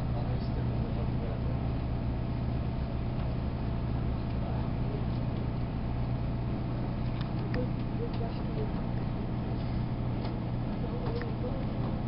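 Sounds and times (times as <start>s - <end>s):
train coach hum and rumble: 0.0s - 12.0s.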